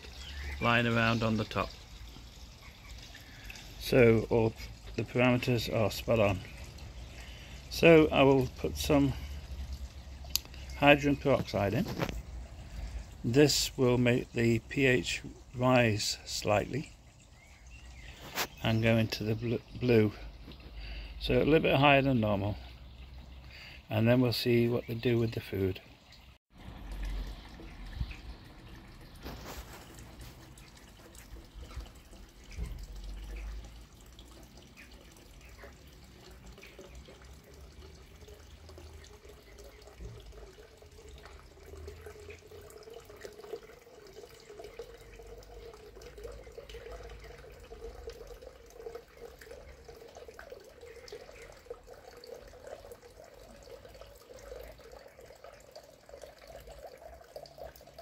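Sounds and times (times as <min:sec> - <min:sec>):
water splashing into a pond: 0:00.0 - 0:58.0.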